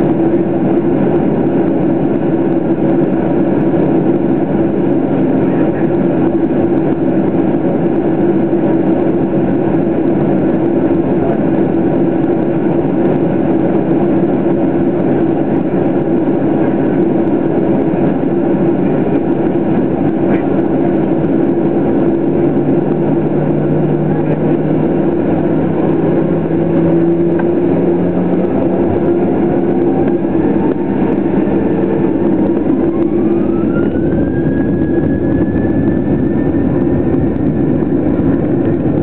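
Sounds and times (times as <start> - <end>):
jet engines idling hum: 0.0 - 39.0.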